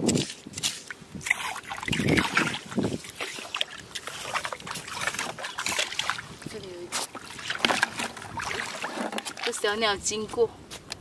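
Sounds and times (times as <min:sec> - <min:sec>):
boots sloshing through water: 0:00.1 - 0:09.8.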